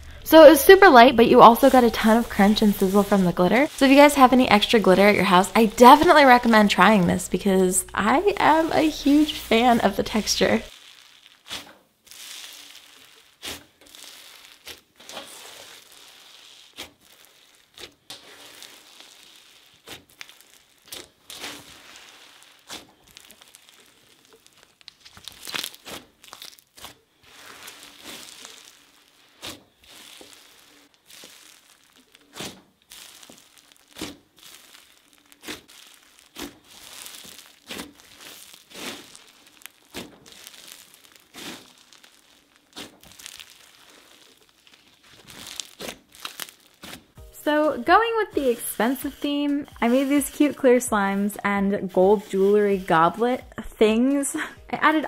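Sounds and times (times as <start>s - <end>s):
slime crackling and popping: 0.0s - 55.0s.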